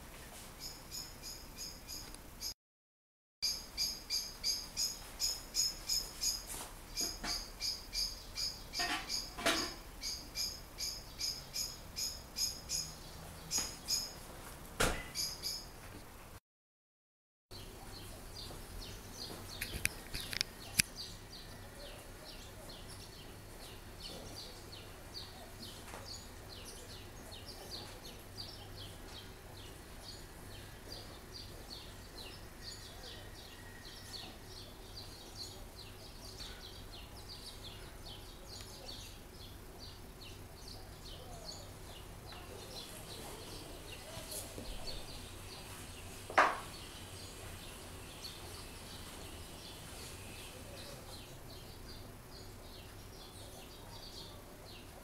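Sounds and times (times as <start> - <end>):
birds chirping: 0.6 - 2.6, 3.4 - 15.8, 17.5 - 55.0.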